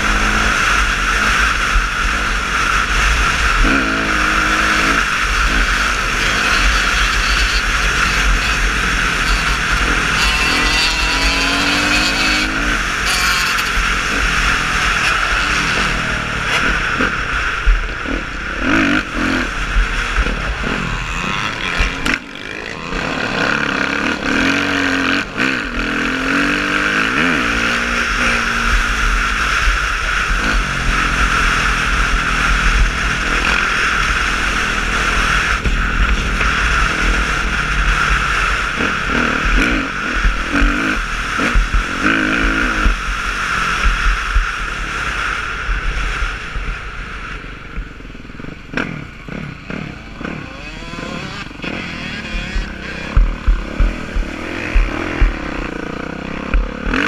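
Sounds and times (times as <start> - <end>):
motorcycle engine revving: 0.0 - 57.0
wind rushing over camera: 0.0 - 57.0.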